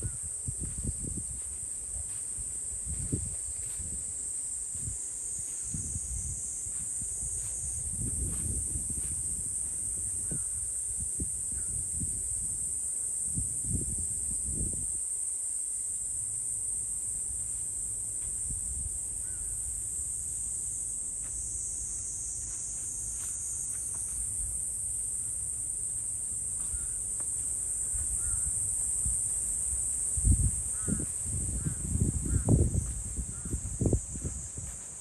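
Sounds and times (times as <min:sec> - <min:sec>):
cicadas drone: 0:00.0 - 0:35.0.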